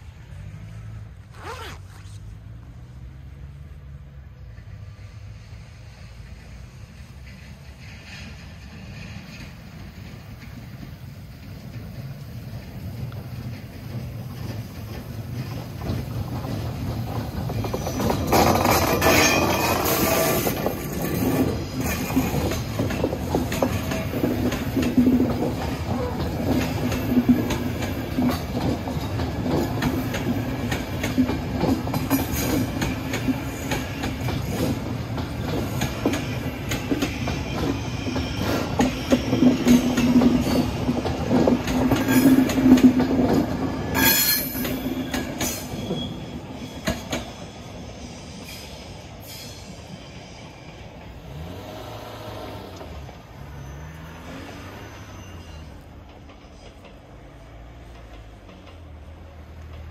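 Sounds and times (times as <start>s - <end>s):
train wheel squeal: 4.4s - 57.0s
train wheels clattering over rails: 4.4s - 59.9s.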